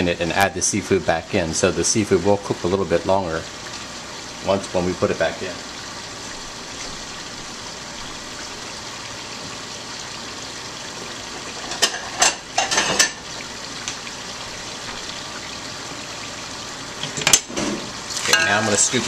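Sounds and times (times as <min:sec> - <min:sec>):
seafood sizzling in hot oil: 0:00.2 - 0:19.0.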